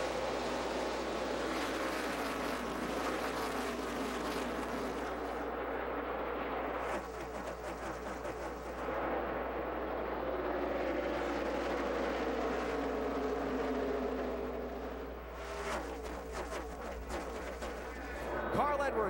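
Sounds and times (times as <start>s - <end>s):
race car engines at full throttle: 0.0s - 19.0s.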